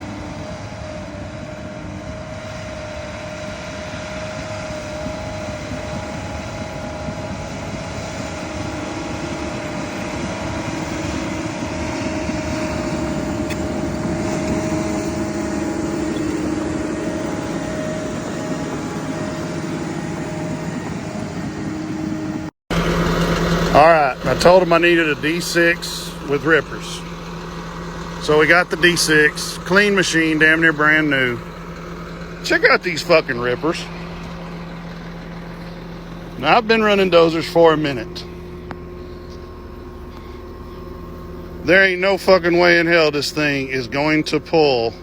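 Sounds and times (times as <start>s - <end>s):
bulldozer diesel engine running: 0.0s - 45.0s
constant whine: 0.0s - 45.0s.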